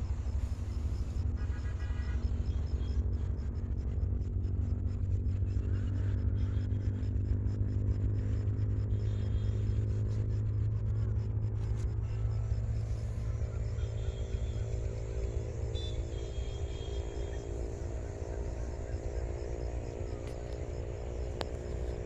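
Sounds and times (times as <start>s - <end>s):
engine droning steadily: 0.0s - 22.0s.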